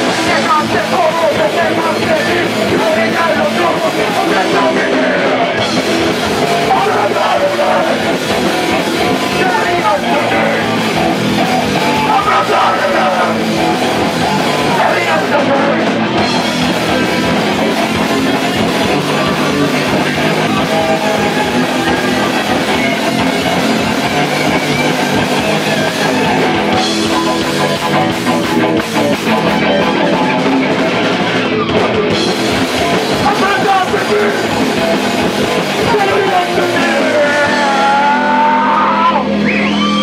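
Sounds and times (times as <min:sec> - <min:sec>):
bass guitar: 0:00.0 - 0:40.0
distorted electric guitars: 0:00.0 - 0:40.0
drum kit: 0:00.0 - 0:40.0.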